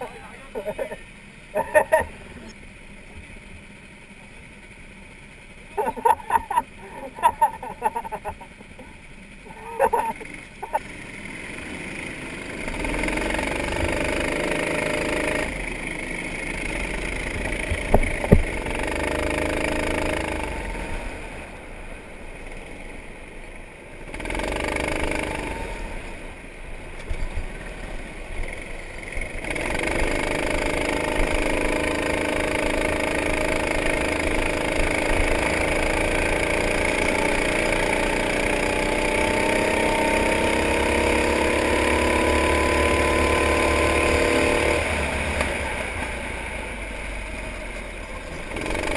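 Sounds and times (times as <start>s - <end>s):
go-kart engine revving: 0.0s - 48.9s.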